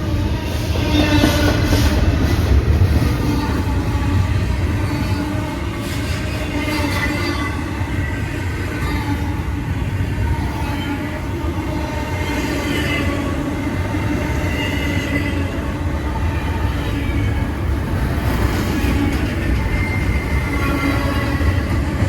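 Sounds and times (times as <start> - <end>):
freight train wheels rumbling on rail: 0.0 - 22.0.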